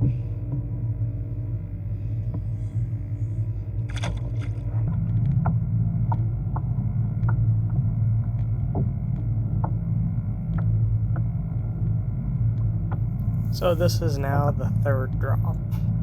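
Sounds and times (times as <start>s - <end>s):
kayak drive humming: 0.0s - 7.0s, 9.7s - 15.9s.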